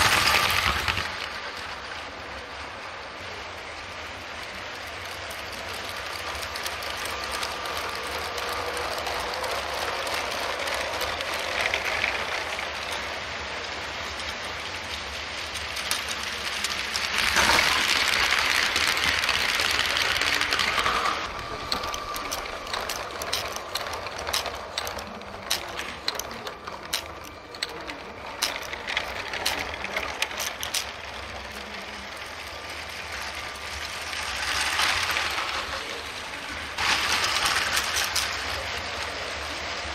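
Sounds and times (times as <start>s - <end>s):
toy train rattling on track: 0.0s - 39.9s.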